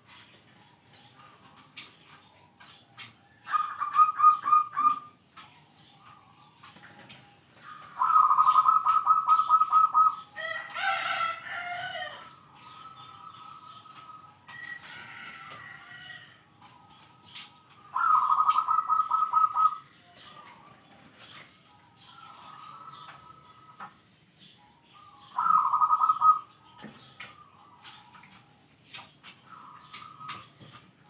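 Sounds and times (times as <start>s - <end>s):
dove cooing: 1.2s - 5.5s, 6.1s - 23.9s, 24.9s - 28.4s.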